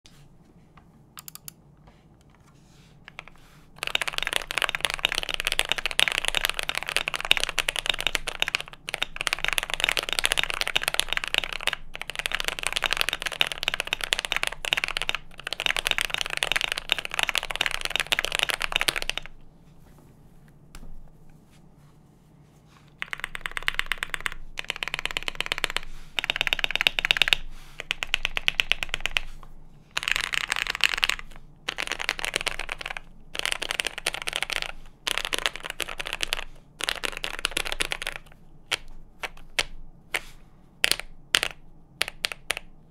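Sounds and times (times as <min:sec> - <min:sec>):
mechanical keyboard typing: 0:01.2 - 0:01.6, 0:03.1 - 0:19.4, 0:23.0 - 0:29.3, 0:29.9 - 0:39.8, 0:40.8 - 0:42.7.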